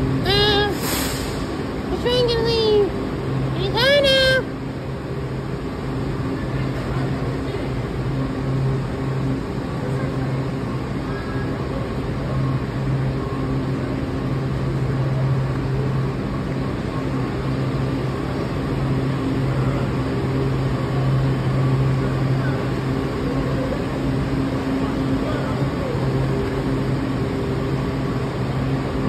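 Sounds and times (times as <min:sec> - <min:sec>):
train equipment humming: 0:00.0 - 0:29.0.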